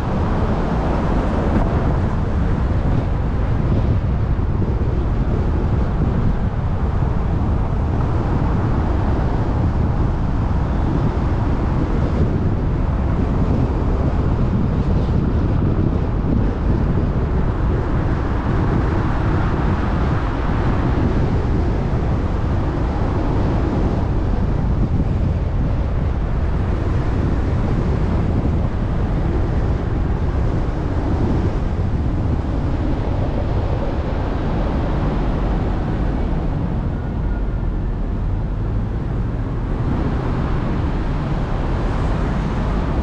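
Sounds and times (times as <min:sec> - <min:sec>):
car driving rumble: 0:00.0 - 0:43.0
road noise: 0:00.0 - 0:43.0
wind noise on microphone: 0:00.0 - 0:43.0.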